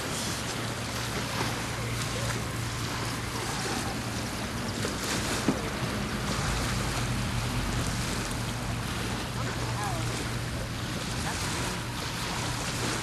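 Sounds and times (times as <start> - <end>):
lake waves washing at shore: 0.0 - 13.0.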